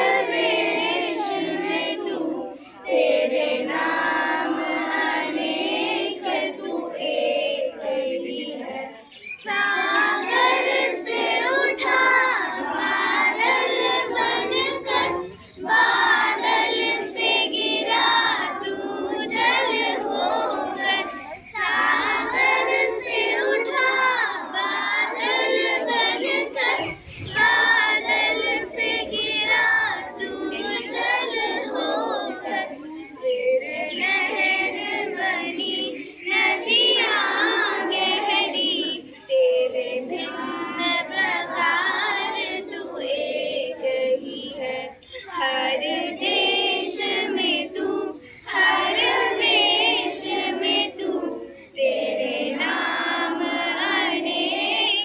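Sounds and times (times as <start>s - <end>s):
children singing in unison: 0.0s - 55.0s.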